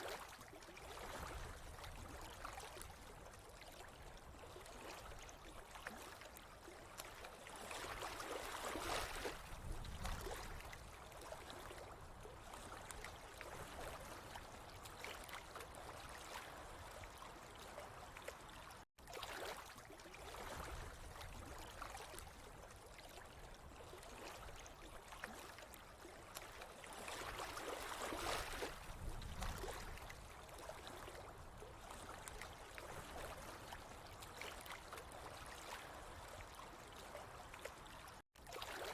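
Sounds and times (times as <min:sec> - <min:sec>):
water trickling and gurgling: 0:00.0 - 0:38.9.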